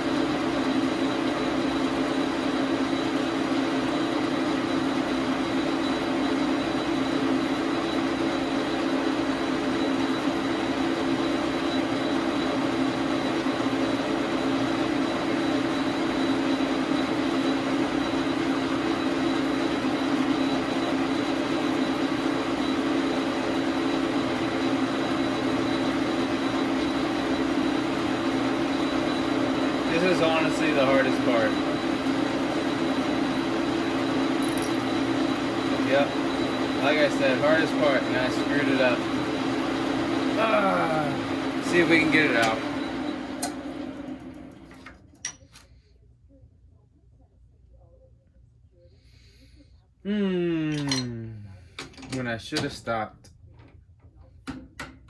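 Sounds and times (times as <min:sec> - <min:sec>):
lathe humming with high whine: 0:00.0 - 0:45.0.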